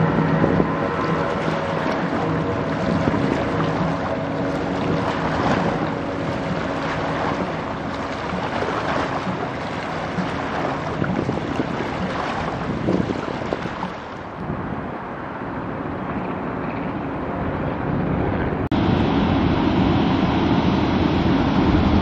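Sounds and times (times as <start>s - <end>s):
low engine hum: 0.0s - 22.0s
water noise: 0.0s - 22.0s
wind: 0.0s - 22.0s.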